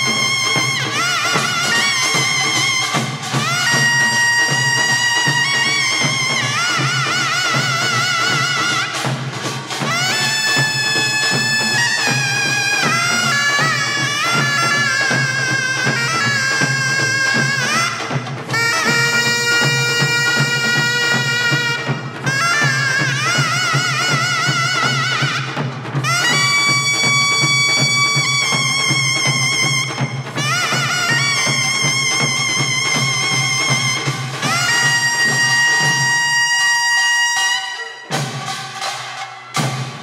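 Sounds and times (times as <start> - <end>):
double-reed shawm melody: 0.0 - 40.0
percussion ensemble: 0.0 - 40.0.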